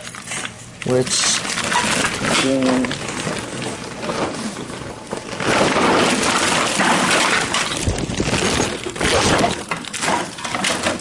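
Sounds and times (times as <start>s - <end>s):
plastic bottles clattering: 0.4s - 11.0s.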